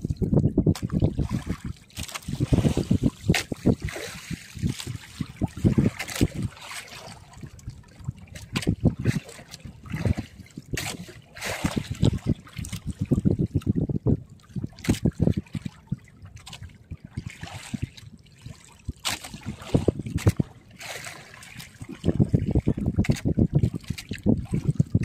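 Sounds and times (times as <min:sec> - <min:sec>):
water splashing against boat: 0:00.0 - 0:25.0.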